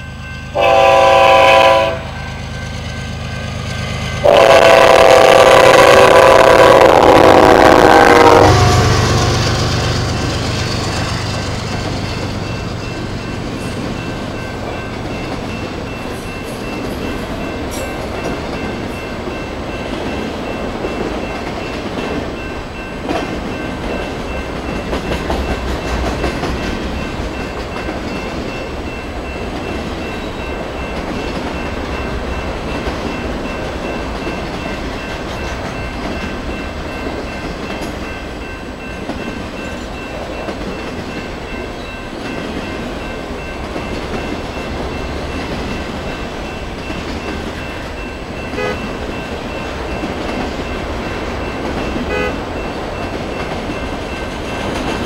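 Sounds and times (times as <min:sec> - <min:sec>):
train wheels rolling on track: 0:00.0 - 0:55.0.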